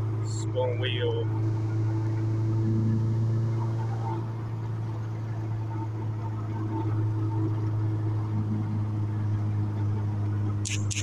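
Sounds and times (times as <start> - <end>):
car engine droning in cabin: 0.0 - 11.0.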